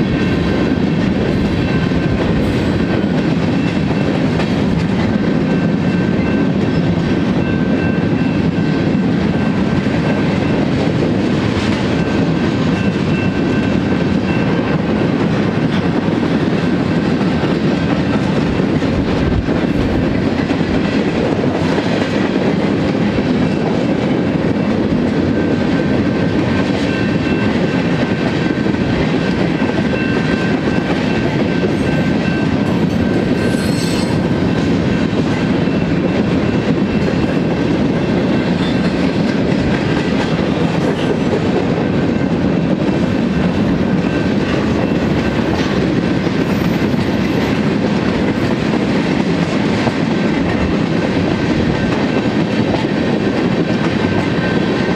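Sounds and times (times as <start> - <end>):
clickety-clack over rail joints: 0.0 - 54.9
train wheels rumbling on rail: 0.0 - 54.9.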